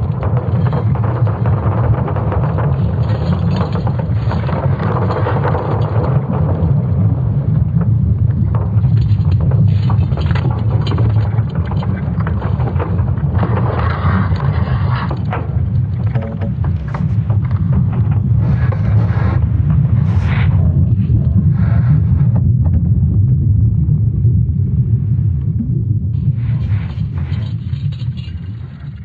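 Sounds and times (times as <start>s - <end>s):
crackling and creaking noise: 0.0s - 29.0s
deep steady rumble: 0.0s - 29.0s.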